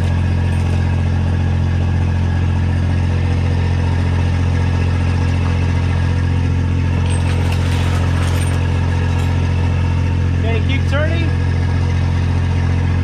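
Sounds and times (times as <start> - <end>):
diesel engine idling: 0.0 - 7.4, 8.0 - 13.0.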